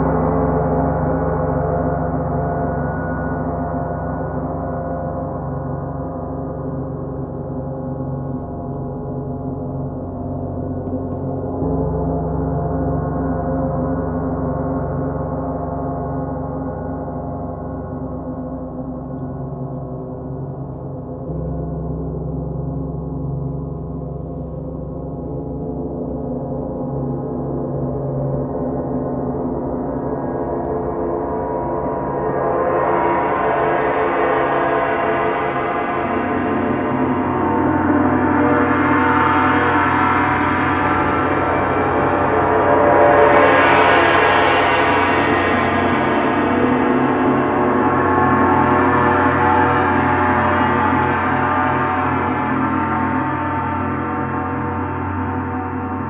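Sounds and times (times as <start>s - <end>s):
bronze gong: 0.0s - 56.0s
large gongs played with mallets: 0.0s - 56.0s.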